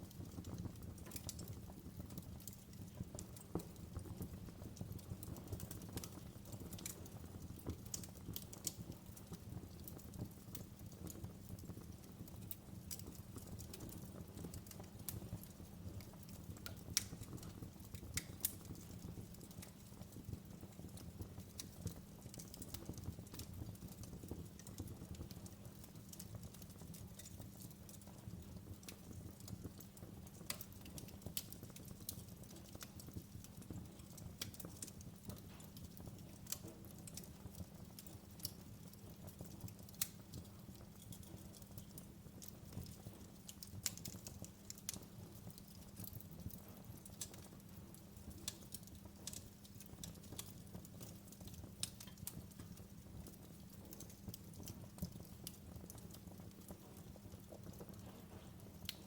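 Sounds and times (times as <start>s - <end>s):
fire pops and snaps: 0.0s - 59.0s
low fire rumble: 0.0s - 59.0s
wood fire crackling: 0.0s - 59.0s.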